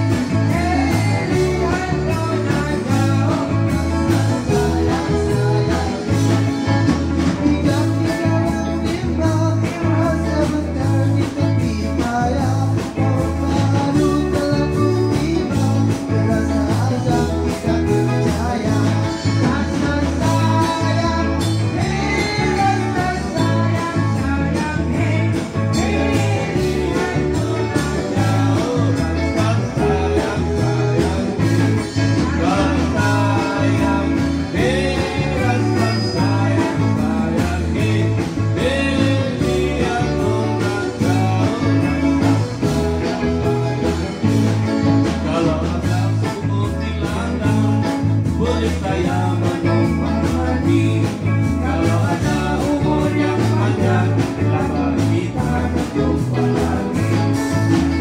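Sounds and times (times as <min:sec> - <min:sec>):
voices singing into microphones: 0:00.0 - 0:44.4, 0:45.0 - 0:58.0
electric guitars: 0:00.0 - 0:58.0
keyboard: 0:00.0 - 0:58.0
repeating bass line: 0:00.0 - 0:58.0.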